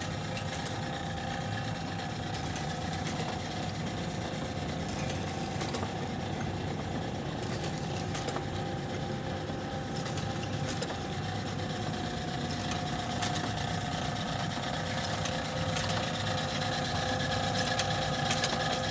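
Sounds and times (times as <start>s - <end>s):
machine hum with fixed tones: 0.0s - 18.9s.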